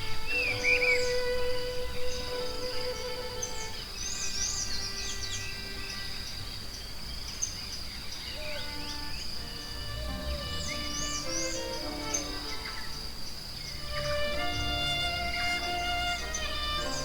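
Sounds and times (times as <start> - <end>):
soft relaxation music: 0.0 - 7.2, 8.2 - 17.0
high insect drone: 0.0 - 17.0.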